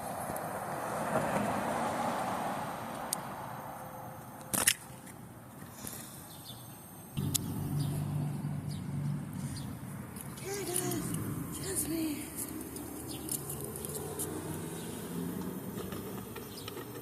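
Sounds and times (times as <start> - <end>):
vehicle passing: 0.0 - 6.2, 6.9 - 17.0
low steady engine hum: 2.7 - 17.0.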